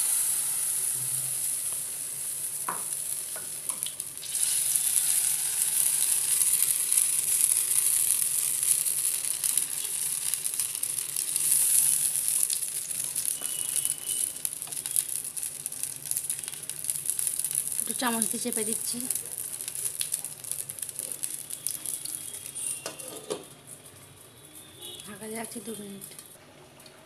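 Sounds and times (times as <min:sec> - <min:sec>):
batter sizzling in hot oil: 0:00.0 - 0:26.2.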